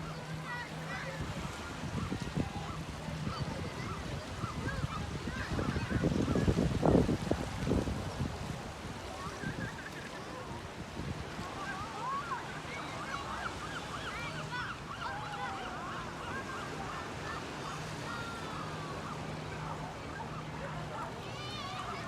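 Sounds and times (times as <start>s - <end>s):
surf: 0.0s - 22.0s.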